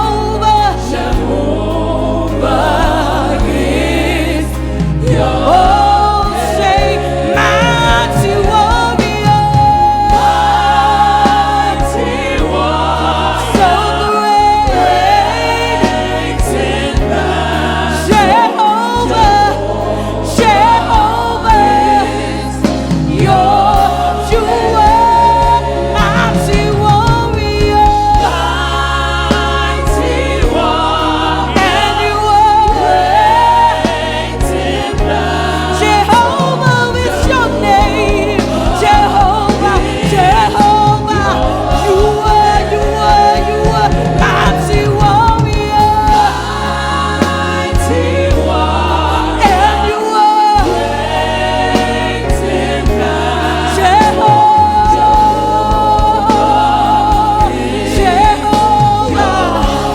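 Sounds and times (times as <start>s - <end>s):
stepping bass line: 0.0s - 50.0s, 50.6s - 59.9s
band playing gospel music: 0.0s - 59.9s
choir singing: 0.0s - 59.9s.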